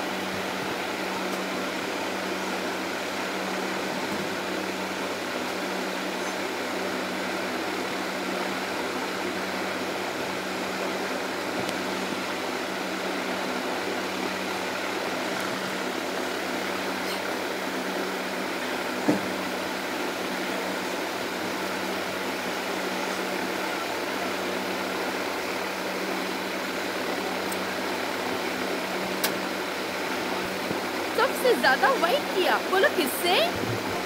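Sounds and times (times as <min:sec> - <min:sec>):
fan whirring: 0:00.0 - 0:34.0.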